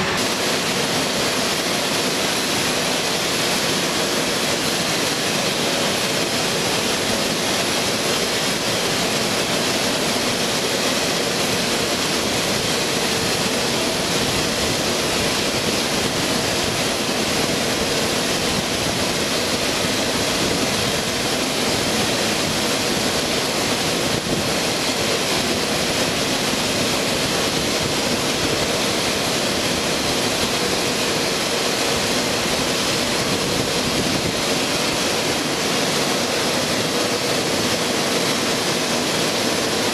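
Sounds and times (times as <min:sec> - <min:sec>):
jet engines running: 0:00.0 - 0:39.9
thin high whine: 0:00.0 - 0:39.9.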